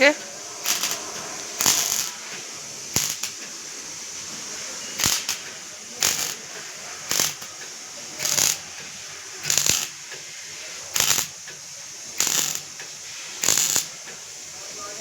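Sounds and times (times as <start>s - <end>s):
welding arc crackle: 0.0s - 15.0s.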